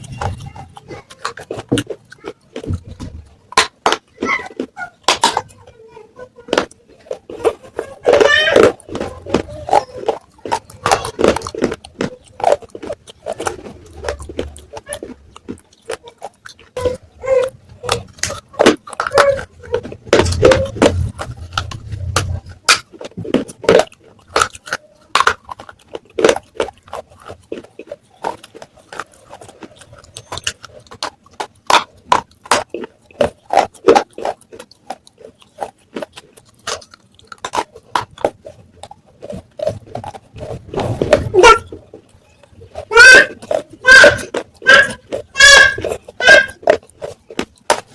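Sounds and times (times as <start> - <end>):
clay pieces crunching in mouth: 0.0 - 47.9.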